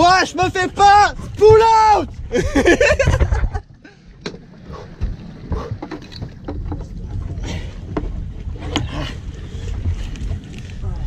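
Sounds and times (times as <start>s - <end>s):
boat low rumble: 0.0s - 11.0s.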